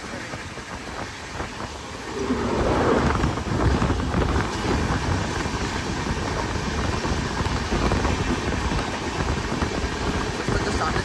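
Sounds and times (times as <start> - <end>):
rushing air: 0.0 - 11.0
train wheels rumbling on rail: 0.0 - 11.0.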